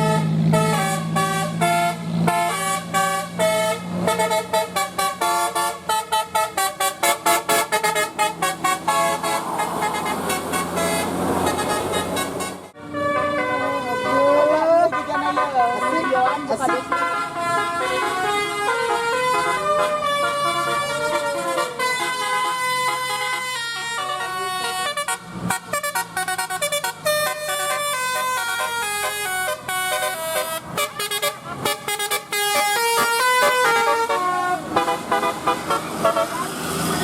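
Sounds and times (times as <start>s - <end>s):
musical air horn melody: 0.0s - 36.5s.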